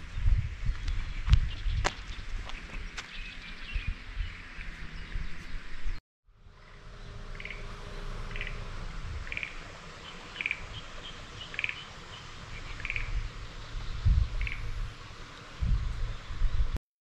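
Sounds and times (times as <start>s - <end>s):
steady low rumble: 0.0s - 16.8s.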